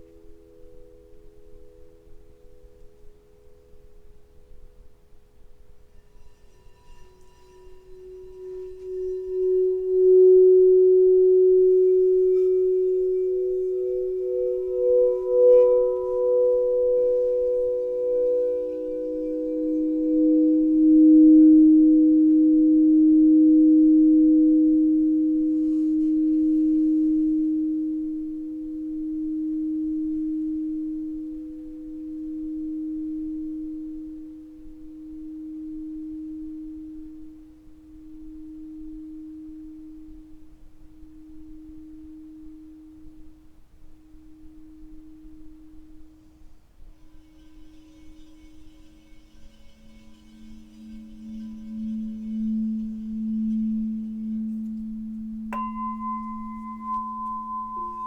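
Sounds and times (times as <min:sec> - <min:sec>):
singing bowl ringing: 0:00.0 - 0:58.0.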